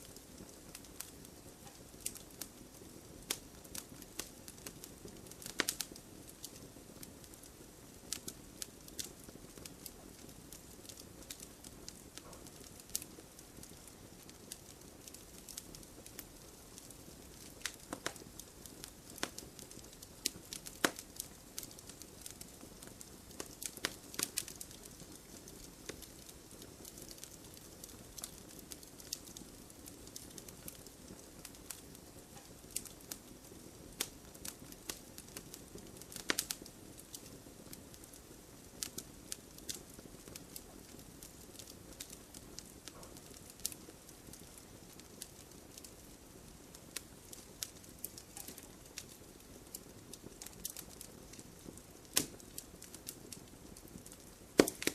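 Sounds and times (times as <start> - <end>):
campfire crackling and popping: 0.0 - 54.9
soft rush of flame: 0.0 - 54.9.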